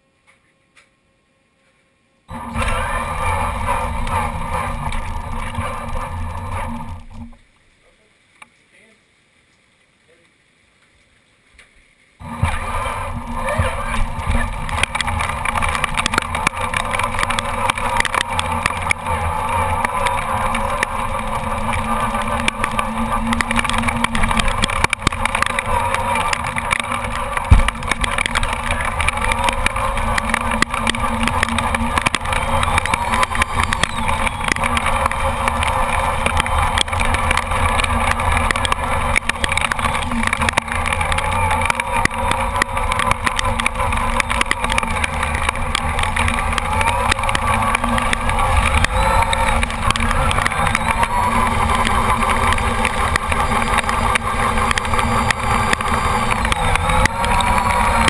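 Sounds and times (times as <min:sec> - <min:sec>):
electric motor and gears whining: 0:02.3 - 0:07.4, 0:12.2 - 0:58.0
small crackling clicks: 0:02.3 - 0:07.7, 0:09.5 - 0:58.0.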